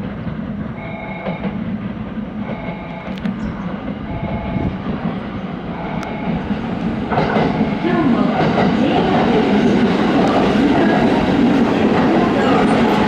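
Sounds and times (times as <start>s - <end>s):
train mechanical hum: 0.0s - 13.0s.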